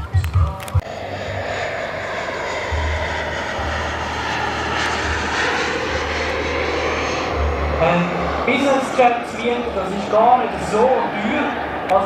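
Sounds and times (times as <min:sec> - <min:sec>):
model jet turbines whining: 0:00.8 - 0:12.0.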